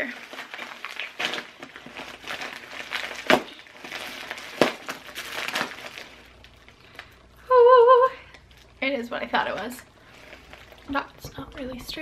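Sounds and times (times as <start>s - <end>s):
packaging rustling and crinkling: 0.0s - 7.4s, 8.1s - 12.0s.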